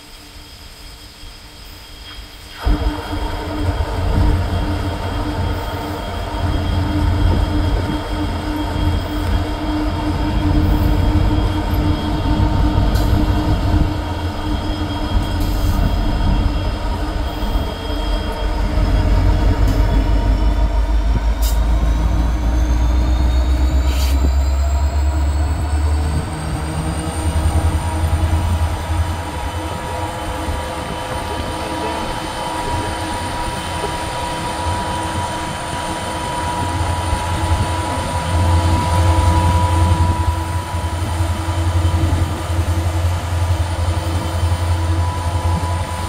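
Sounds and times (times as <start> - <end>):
wheel and rail noise: 0.0 - 46.0
rising whine: 0.5 - 46.0
locomotive engine rumble: 2.2 - 46.0.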